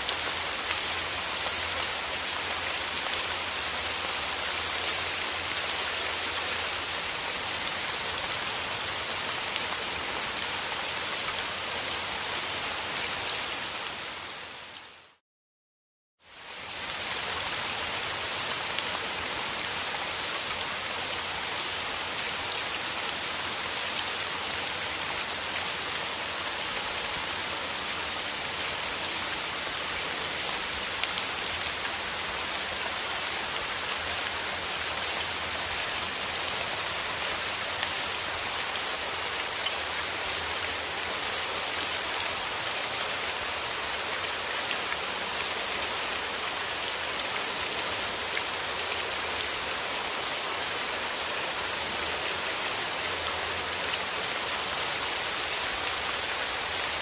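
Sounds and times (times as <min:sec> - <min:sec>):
steady rain falling: 0:00.0 - 0:15.2, 0:16.2 - 0:57.0.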